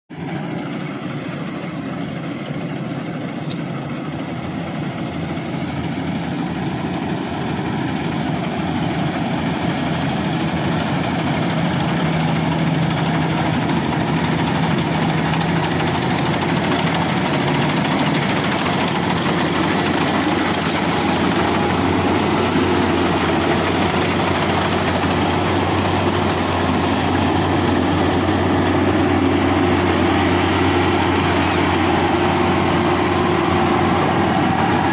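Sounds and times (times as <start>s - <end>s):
combine harvester engine running: 0.1s - 34.9s.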